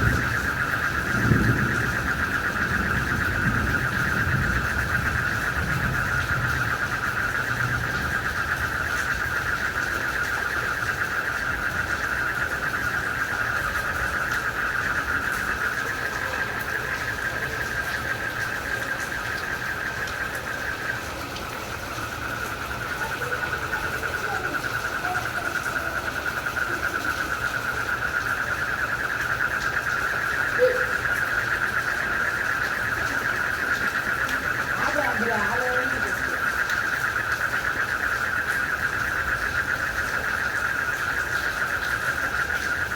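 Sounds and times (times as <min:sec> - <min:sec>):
crickets and frogs trilling: 0:00.0 - 0:42.9.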